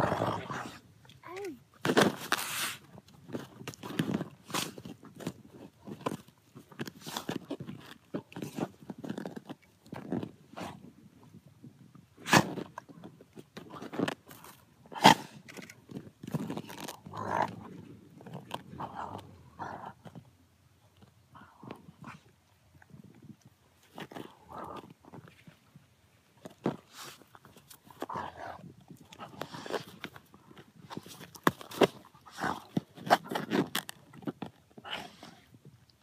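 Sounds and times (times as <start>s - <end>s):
wolf chewing fabric toy: 1.8s - 36.0s.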